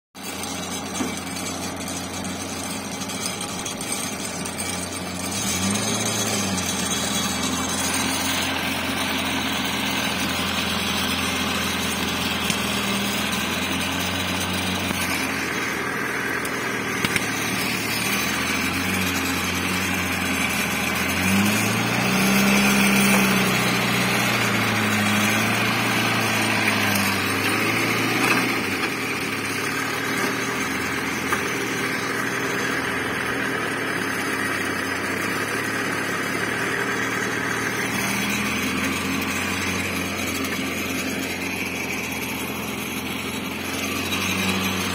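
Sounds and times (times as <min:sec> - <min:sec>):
tractor engine revving: 0:00.2 - 0:44.9.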